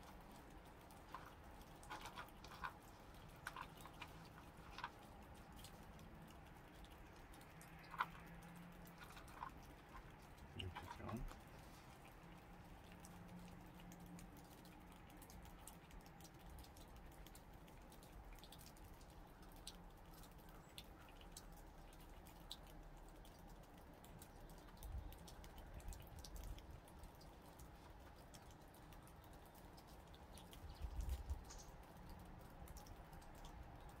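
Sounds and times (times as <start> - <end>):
squirrel chewing food: 0.0 - 34.0.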